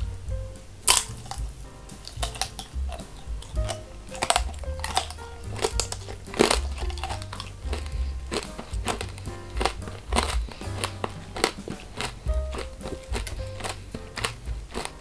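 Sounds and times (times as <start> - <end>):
background music: 0.0 - 15.0
crunching candied fruit: 0.8 - 15.0.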